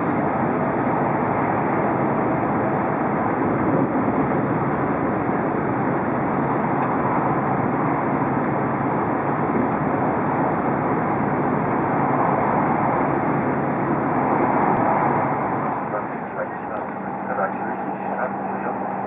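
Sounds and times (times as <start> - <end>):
train cabin running noise: 0.0 - 19.0.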